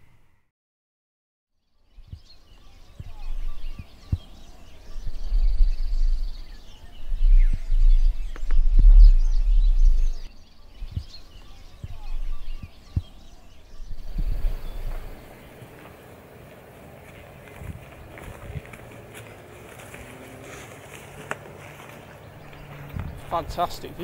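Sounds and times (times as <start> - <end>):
wind rumble on microphone: 3.0 - 15.9, 17.0 - 24.0.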